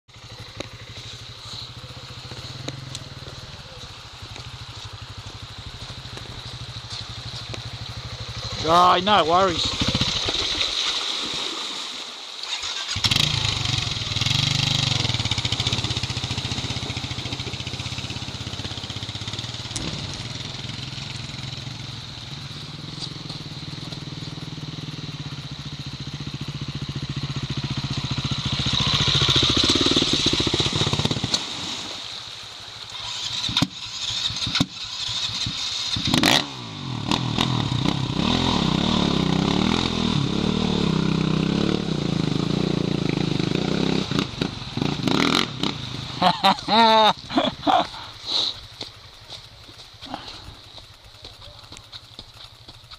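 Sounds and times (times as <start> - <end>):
motorcycle engine idling: 0.1 - 10.7, 12.5 - 31.4, 32.2 - 52.9
water splashing under wheels: 0.1 - 36.4, 37.0 - 52.9
trail motorcycles riding: 0.1 - 52.9.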